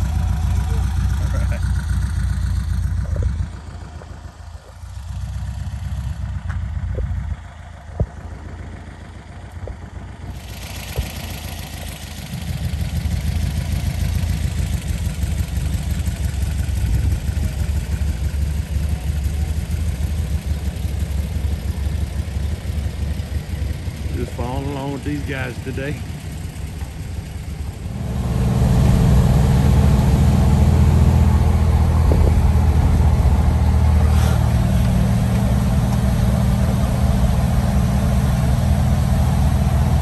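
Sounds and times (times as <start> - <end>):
engines idling with uneven rumble: 0.0 - 40.0.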